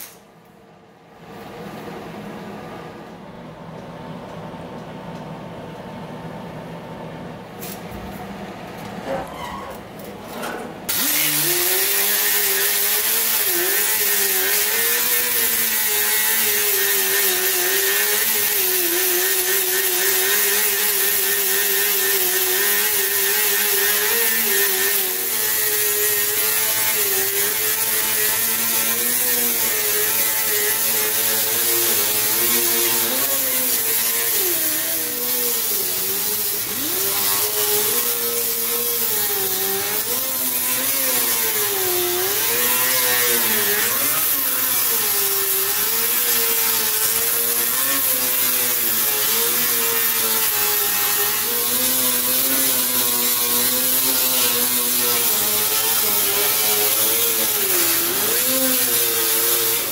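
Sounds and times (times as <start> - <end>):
shop noise: 0.0 - 3.4, 7.4 - 59.9
die grinder grinding metal: 10.9 - 59.9.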